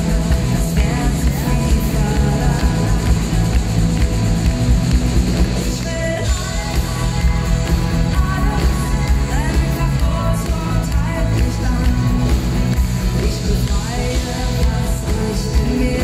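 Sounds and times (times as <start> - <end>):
person singing amplified: 0.0 - 4.1, 5.6 - 16.0
live pop band playing: 0.0 - 16.0.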